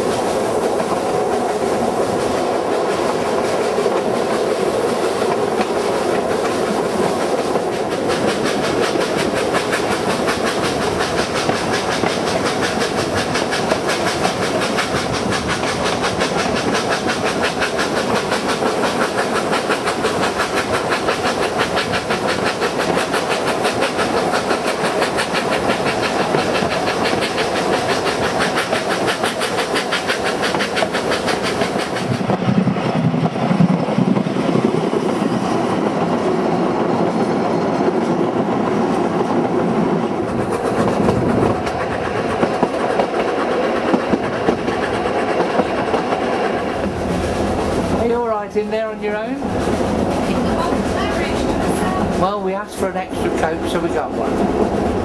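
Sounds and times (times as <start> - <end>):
rushing air: 0.0 - 55.0
train wheels clattering: 0.0 - 55.0.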